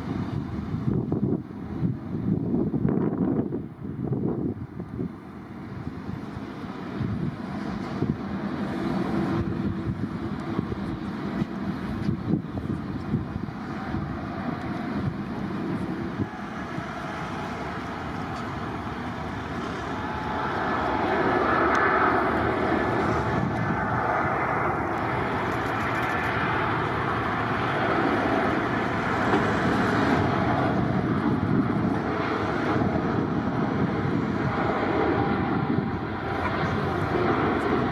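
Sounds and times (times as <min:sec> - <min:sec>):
airliner engines passing: 0:00.0 - 0:37.9.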